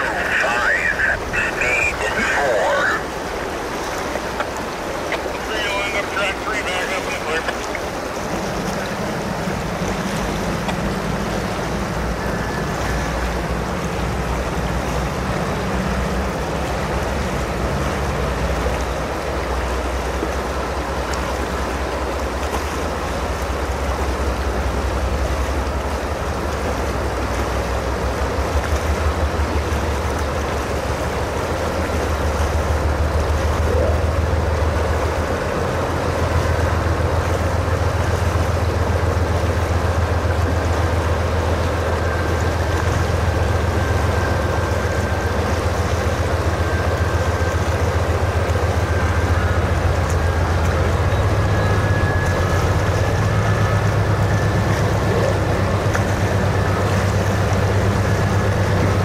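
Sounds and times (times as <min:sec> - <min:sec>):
locomotive engine drone: 0:00.0 - 0:59.0
river rushing: 0:00.0 - 0:59.0.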